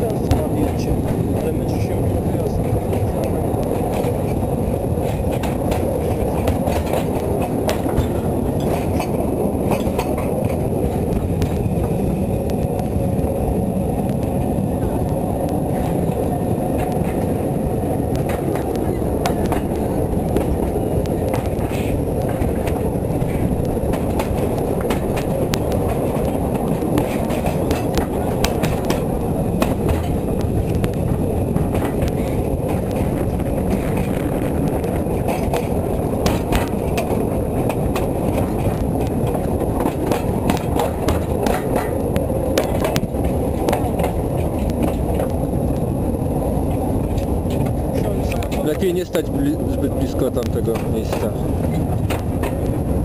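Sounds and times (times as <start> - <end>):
rail joints and couplings clanking: 0.0 - 53.0
railway wagon wheels rumbling: 0.0 - 53.0.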